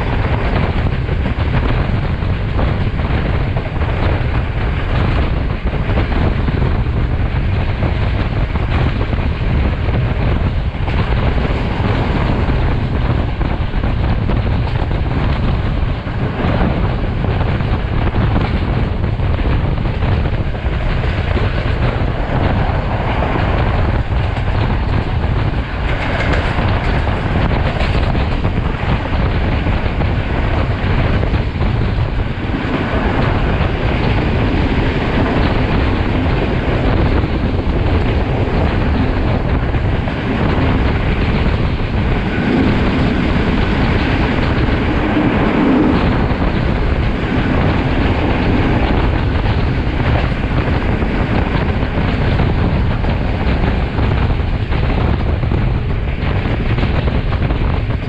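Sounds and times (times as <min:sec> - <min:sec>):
rushing wind: 0:00.0 - 0:58.0
train wheels rumbling on rail: 0:00.0 - 0:58.0.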